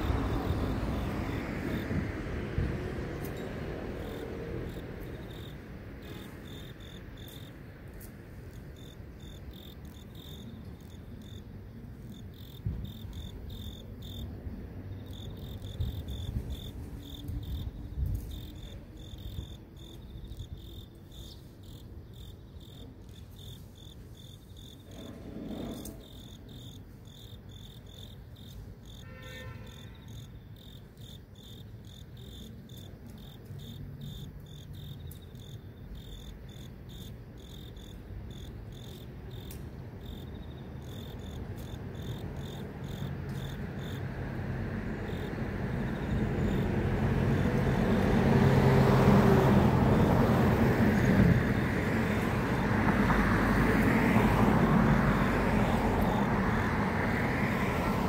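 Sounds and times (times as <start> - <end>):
crickets trilling: 0.0 - 58.0
low rumble of city traffic: 0.0 - 58.0.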